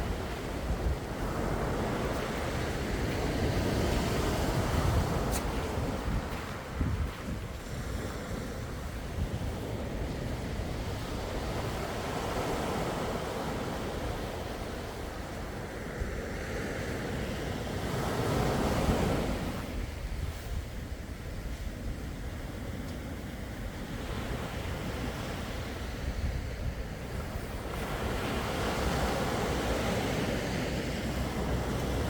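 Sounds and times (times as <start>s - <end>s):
sea waves washing onto shore: 0.0s - 32.0s
wind rumbling on microphone: 0.0s - 32.0s.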